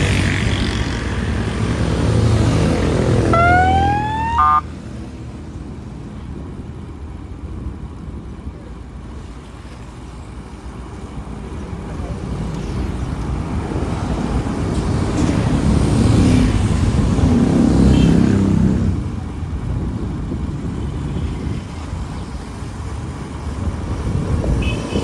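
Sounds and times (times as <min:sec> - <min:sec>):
motorbike and traffic rumbling: 0:00.0 - 0:25.0.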